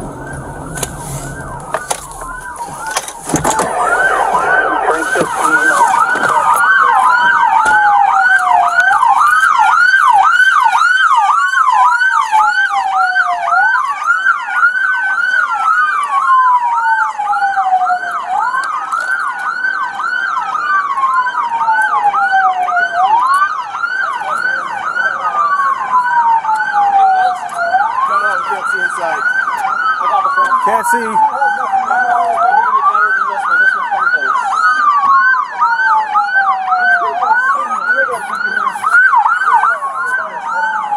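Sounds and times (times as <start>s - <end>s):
siren yelping rapidly: 0.0s - 18.7s, 19.5s - 40.9s
siren wailing: 0.0s - 40.9s.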